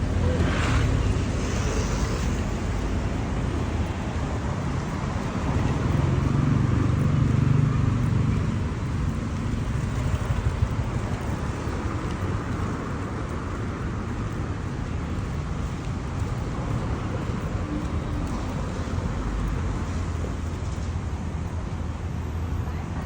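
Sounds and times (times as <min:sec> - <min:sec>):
moving vehicle rumble: 0:00.0 - 0:23.0.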